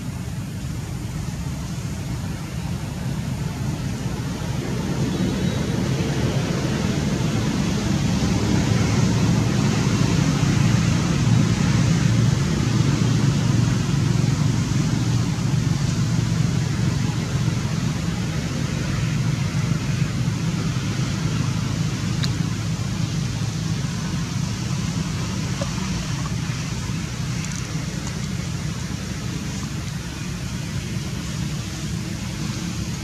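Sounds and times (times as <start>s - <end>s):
low rumbling background noise: 0.0s - 33.0s.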